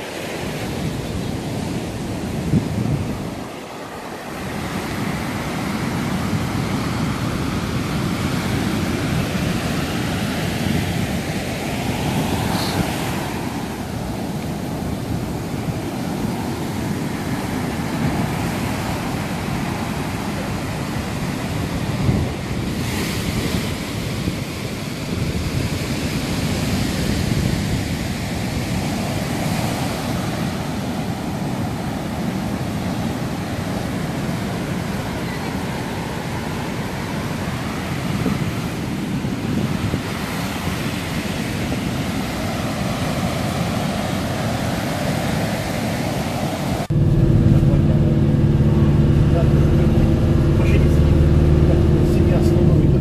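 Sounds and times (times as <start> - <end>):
ocean waves washing in and out: 0.0 - 53.0
wind rumbling on microphone: 0.0 - 53.0.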